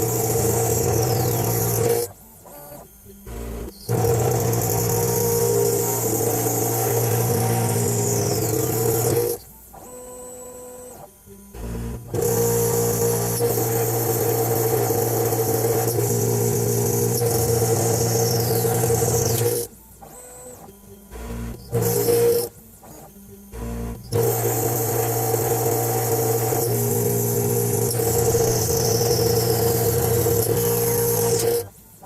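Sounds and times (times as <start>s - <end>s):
cnc machine motor hum: 0.0s - 32.0s.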